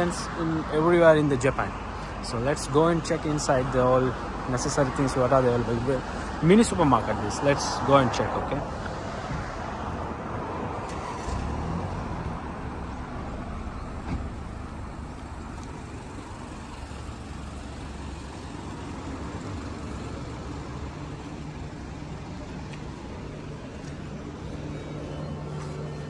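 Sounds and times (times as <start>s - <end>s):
car engines and road traffic: 0.0s - 26.0s.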